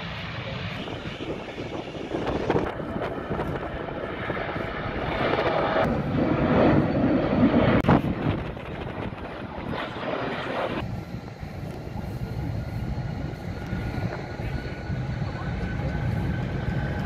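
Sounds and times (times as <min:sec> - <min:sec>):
jet airliner engines: 0:00.0 - 0:17.0.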